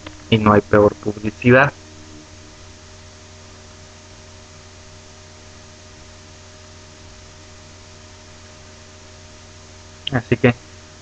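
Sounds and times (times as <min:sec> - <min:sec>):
electrical hum: 0:00.0 - 0:11.0
low background hiss: 0:00.0 - 0:11.0.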